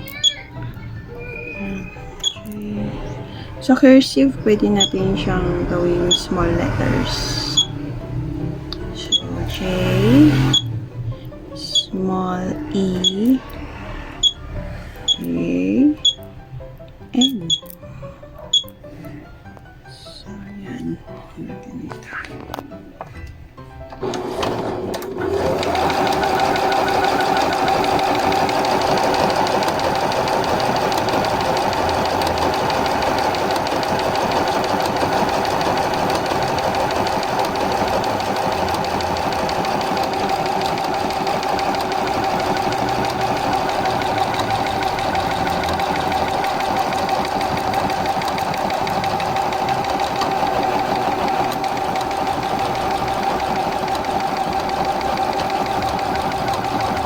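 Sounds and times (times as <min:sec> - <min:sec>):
sewing machine stitching: 0:00.0 - 0:10.9, 0:11.5 - 0:15.3, 0:23.9 - 0:57.0.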